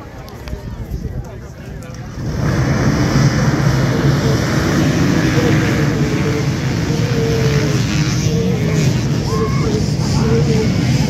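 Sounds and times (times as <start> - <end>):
motorcycles revving and pulling away: 1.7 - 11.0.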